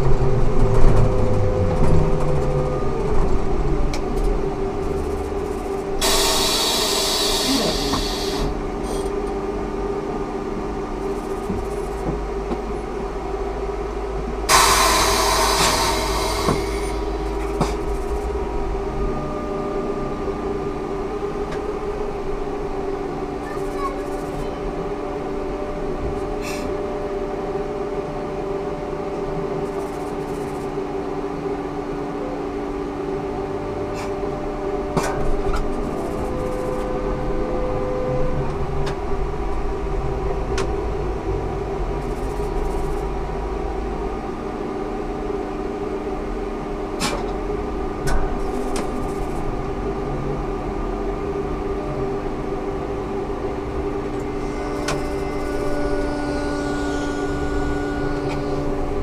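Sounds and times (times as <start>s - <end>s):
bus rumbling on road: 0.0s - 59.0s
trolleybus electric hum: 0.0s - 59.0s.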